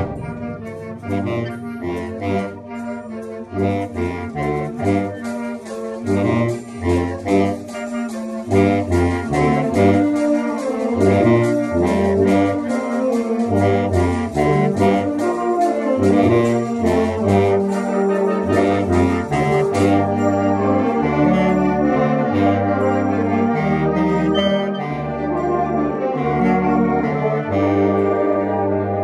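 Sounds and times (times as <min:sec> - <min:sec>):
fast percussion beat: 0:00.0 - 0:22.5, 0:23.9 - 0:25.0
bass clarinet low line: 0:00.0 - 0:29.0
clarinet: 0:00.0 - 0:29.0
concert band with brass: 0:00.0 - 0:29.0.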